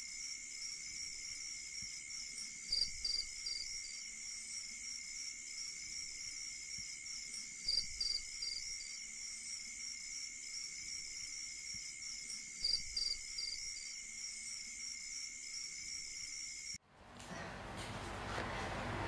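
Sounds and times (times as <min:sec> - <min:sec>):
crickets trilling: 0:00.0 - 0:16.8
sharp cricket chirps: 0:00.0 - 0:16.8.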